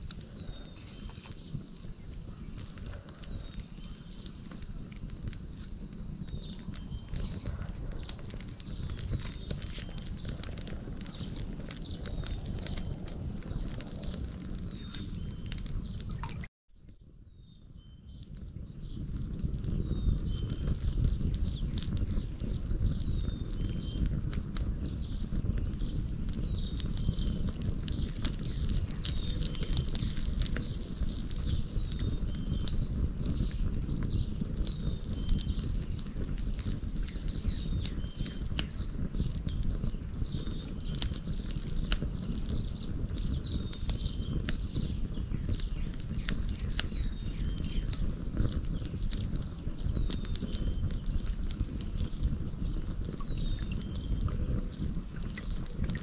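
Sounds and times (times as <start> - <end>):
wood fire crackling: 0.0 - 16.5, 17.2 - 56.0.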